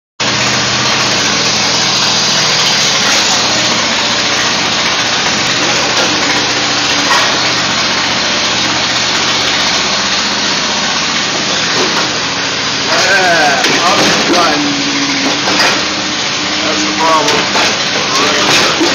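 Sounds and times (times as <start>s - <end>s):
hydraulic power unit running: 0.2s - 18.9s.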